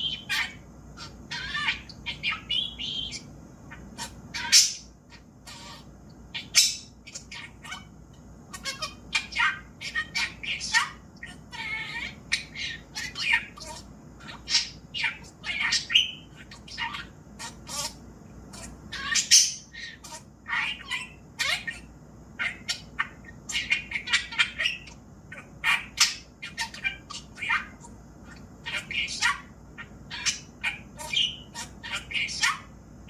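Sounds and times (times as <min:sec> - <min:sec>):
budgerigar chattering: 0:00.0 - 0:07.9, 0:08.5 - 0:32.7.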